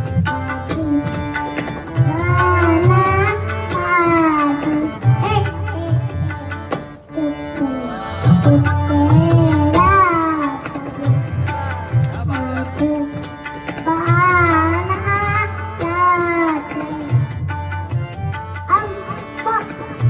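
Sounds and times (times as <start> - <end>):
person singing devotional song: 0.0 - 20.0
tabla rhythm: 0.0 - 20.0.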